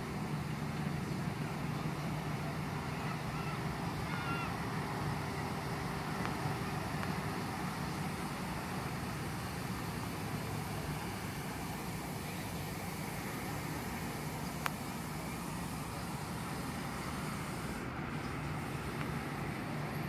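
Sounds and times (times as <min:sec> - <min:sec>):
distant road traffic: 0:00.0 - 0:20.0
faint hiss: 0:00.2 - 0:20.0.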